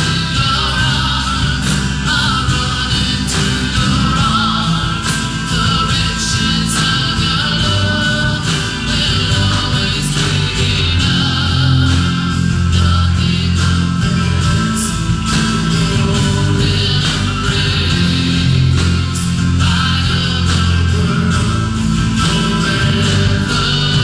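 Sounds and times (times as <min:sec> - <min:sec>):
keyboard: 0:00.0 - 0:24.0
live band playing: 0:00.0 - 0:24.0
strummed guitars: 0:00.0 - 0:24.0.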